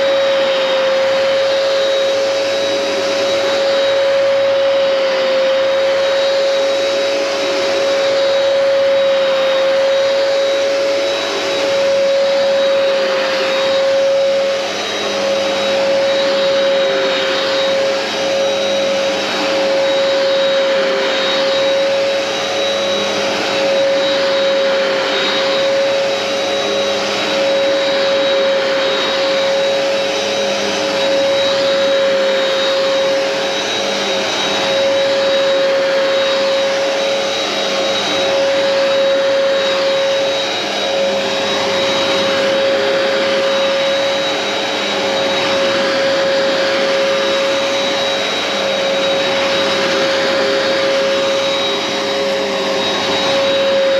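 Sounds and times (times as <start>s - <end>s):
carpet cleaner motor whine: 0.0s - 53.9s.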